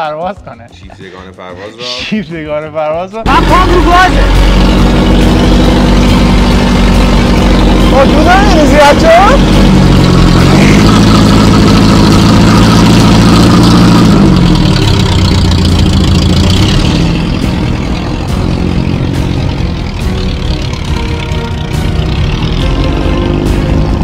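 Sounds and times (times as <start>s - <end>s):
car engine revving: 3.2s - 24.0s.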